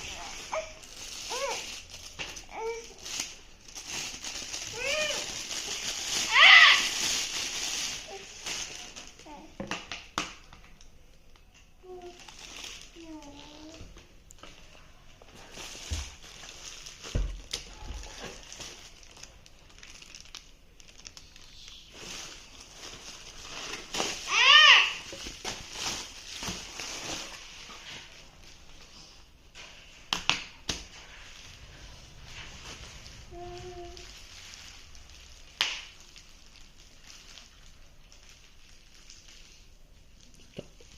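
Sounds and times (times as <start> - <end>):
packaging rustling and crinkling: 0.0 - 10.9, 11.8 - 40.9.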